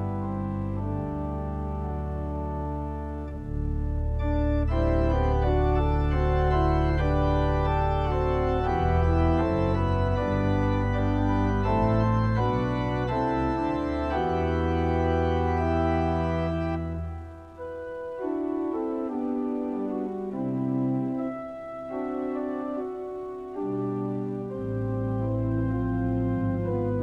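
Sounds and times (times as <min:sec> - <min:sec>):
church organ chords: 0:00.0 - 0:27.0.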